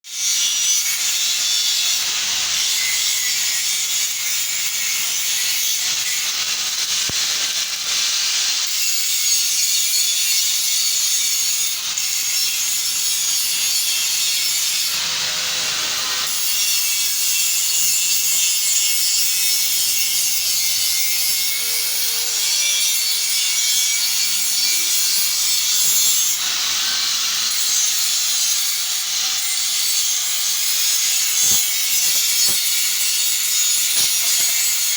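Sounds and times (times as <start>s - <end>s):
harsh hissing metalwork noise: 0.6s - 34.9s.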